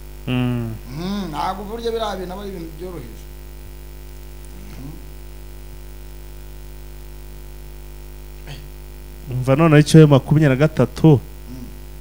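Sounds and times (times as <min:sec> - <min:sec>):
mains hum: 0:00.0 - 0:12.0.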